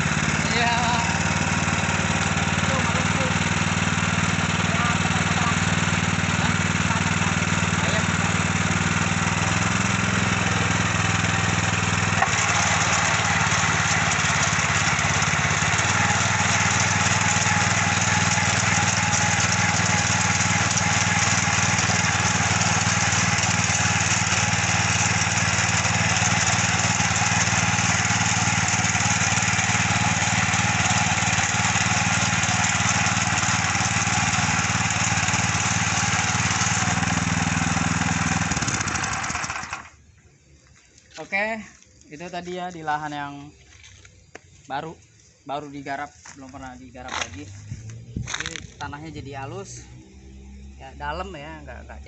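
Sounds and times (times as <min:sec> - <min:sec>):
tines churning soil: 0:00.0 - 0:40.0, 0:40.8 - 0:49.9
tiller engine running: 0:00.0 - 0:40.2, 0:47.0 - 0:51.9.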